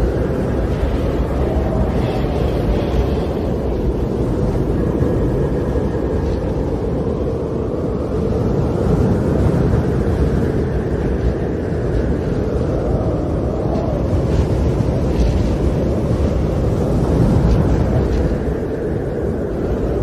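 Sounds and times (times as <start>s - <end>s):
strong wind rushing: 0.0s - 20.0s.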